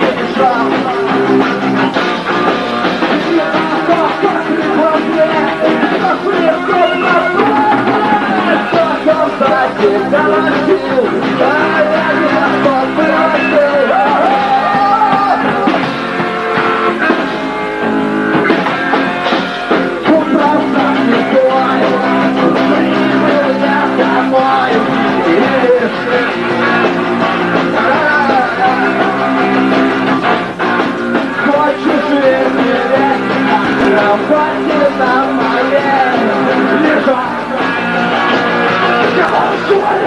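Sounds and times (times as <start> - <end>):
man singing: 0.0 - 2.0, 2.9 - 15.8, 19.8 - 26.9, 27.5 - 29.8, 31.2 - 40.0
punk rock band playing: 0.0 - 40.0.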